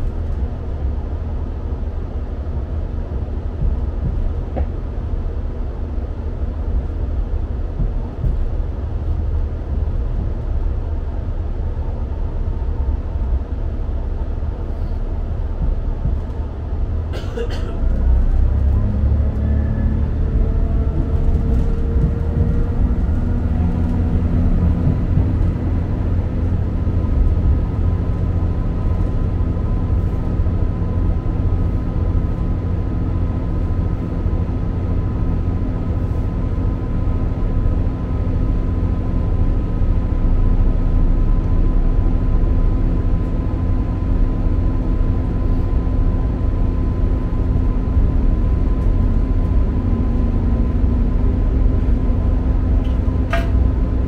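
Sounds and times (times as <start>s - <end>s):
train engine and transmission whine: 0.0s - 54.0s
train wheels rumbling on track: 0.0s - 54.0s.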